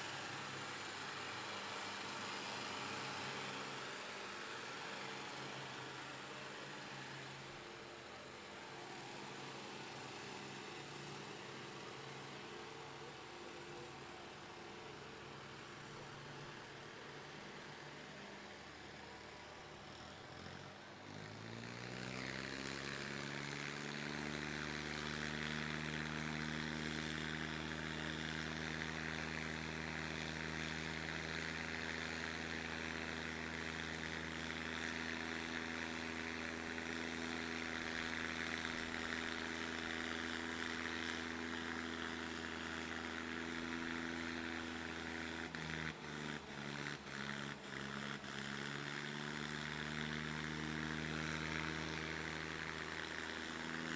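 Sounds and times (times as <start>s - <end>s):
tractor diesel engines droning: 0.0s - 53.9s.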